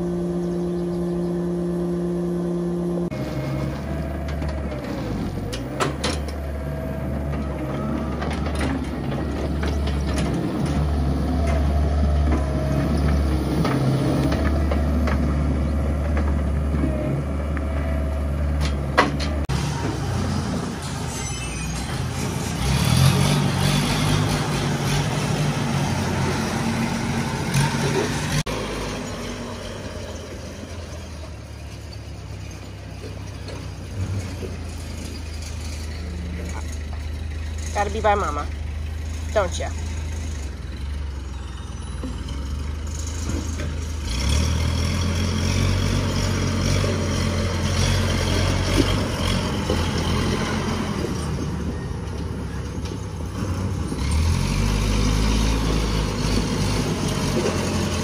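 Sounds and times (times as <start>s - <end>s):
diesel loader engine running: 0.0s - 58.0s
forklift engine driving: 0.0s - 58.0s.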